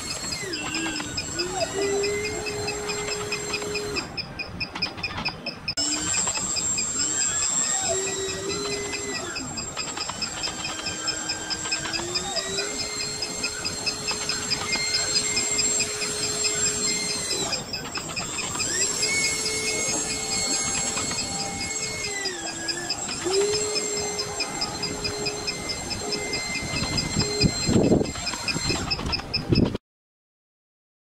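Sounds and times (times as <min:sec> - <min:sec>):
electric motor whining: 0:00.0 - 0:29.6.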